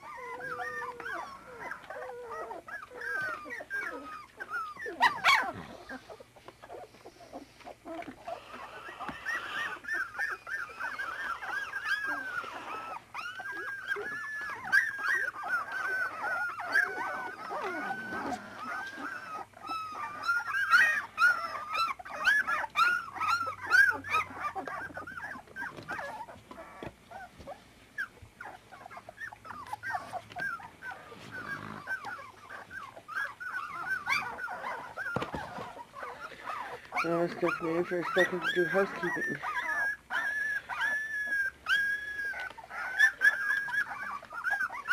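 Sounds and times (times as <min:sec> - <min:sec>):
puppies whimpering and squeaking: 0:00.0 - 0:44.9.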